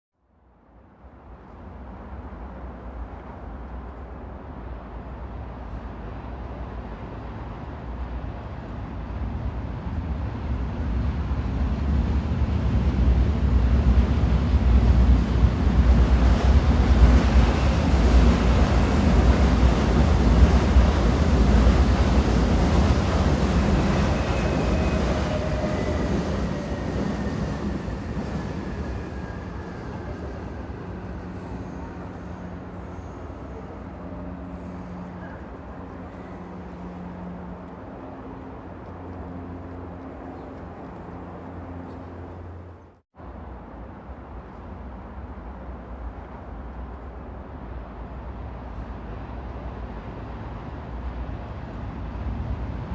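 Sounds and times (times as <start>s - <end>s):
train rumble: 0.7s - 52.9s.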